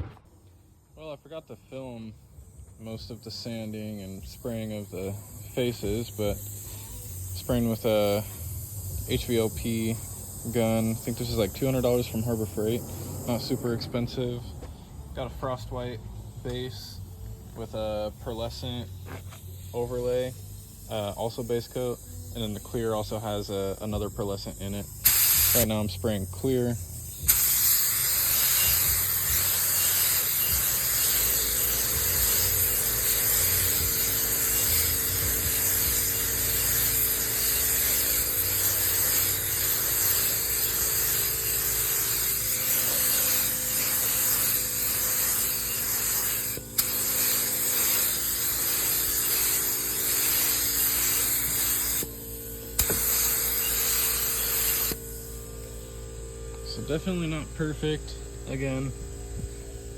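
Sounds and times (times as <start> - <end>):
steady low hum: 0.0 - 59.9
spray gun hissing: 1.7 - 56.0.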